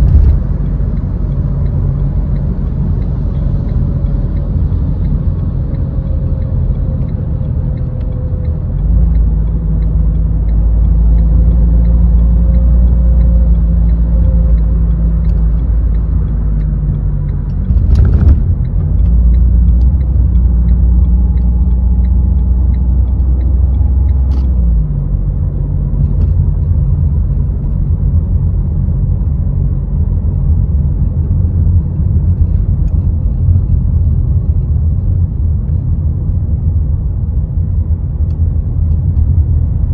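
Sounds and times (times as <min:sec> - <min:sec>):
car engine running: 0:00.0 - 0:39.9
road rumble: 0:00.0 - 0:39.9.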